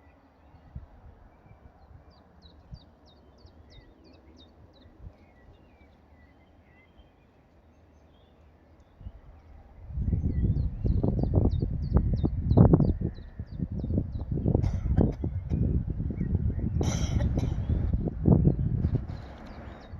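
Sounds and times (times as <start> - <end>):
birdsong: 0.0 - 19.9.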